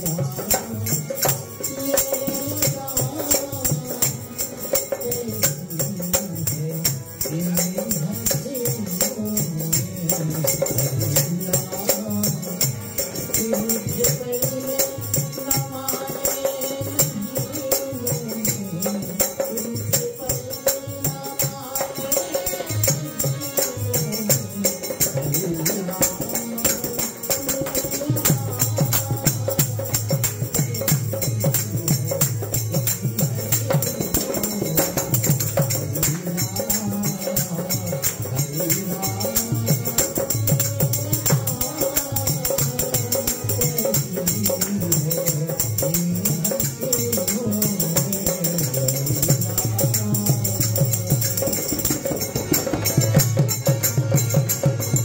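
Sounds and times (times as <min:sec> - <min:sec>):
harmonium music: 0:00.0 - 0:55.0
man singing: 0:00.0 - 0:55.0.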